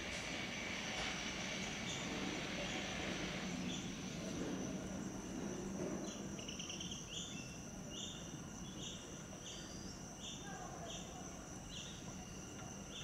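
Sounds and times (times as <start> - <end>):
crickets trilling: 0.1 - 13.0
pulsed cricket chirps: 0.1 - 13.0.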